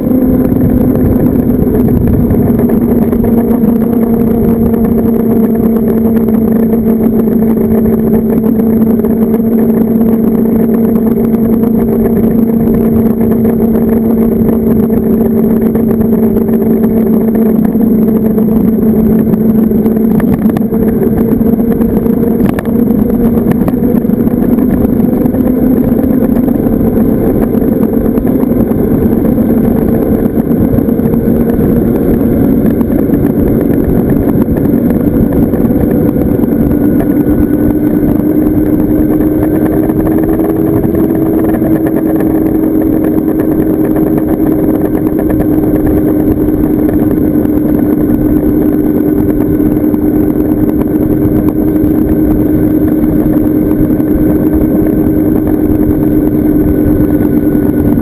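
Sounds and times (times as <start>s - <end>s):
electric motor whine: 0.0s - 58.0s
wind rushing on microphone: 0.0s - 58.0s.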